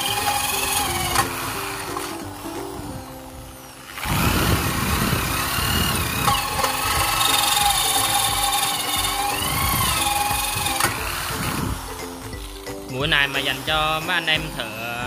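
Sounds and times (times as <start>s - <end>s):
background music: 0.0s - 15.0s
metal cutting squeals: 0.0s - 15.0s
power drill hole saw cutting metal: 0.0s - 15.0s.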